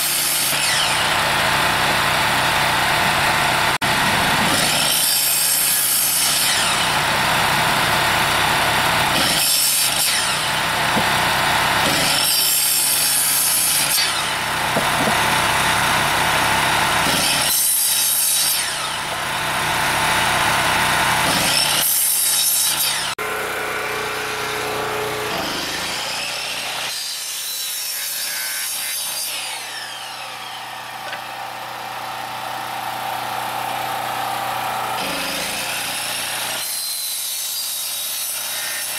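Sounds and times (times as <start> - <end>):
miter saw cutting wood: 0.0 - 38.9.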